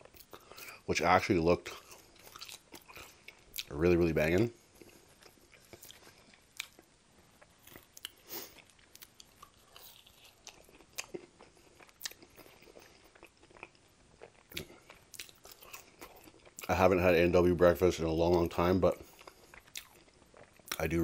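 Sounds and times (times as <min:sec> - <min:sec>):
person chewing: 0:00.0 - 0:00.8, 0:01.7 - 0:16.7, 0:18.3 - 0:20.9.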